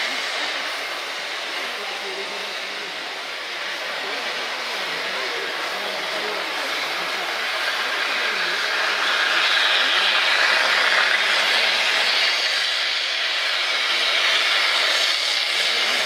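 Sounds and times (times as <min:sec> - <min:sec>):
steam hissing from locomotive: 0:00.0 - 0:16.0.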